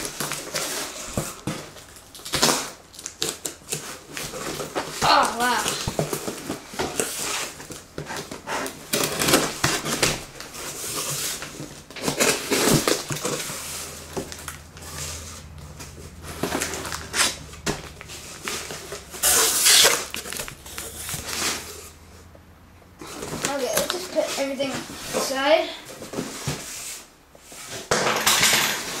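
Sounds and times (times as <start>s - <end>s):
cardboard box scraping and crinkling: 0.0s - 22.2s, 23.0s - 28.0s.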